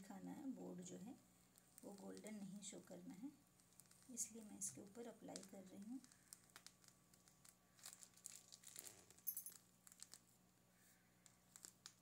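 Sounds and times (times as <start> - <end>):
plastic piping bag crinkling: 1.4 - 10.4, 11.2 - 12.0.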